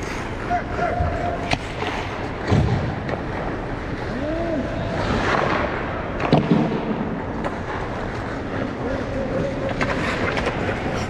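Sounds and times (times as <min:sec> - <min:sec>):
ice skates scraping: 0:00.0 - 0:11.0.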